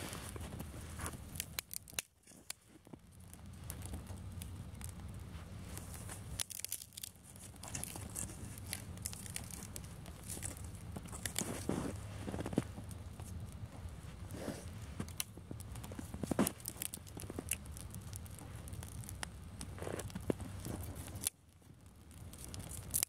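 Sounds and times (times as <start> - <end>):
twigs rustling and snapping: 0.0 - 23.0.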